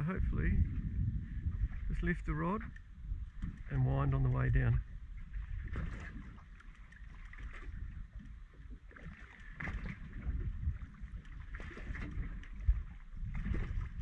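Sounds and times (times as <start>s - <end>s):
water slapping boat hull: 0.0s - 14.0s
wind buffeting microphone: 0.0s - 14.0s.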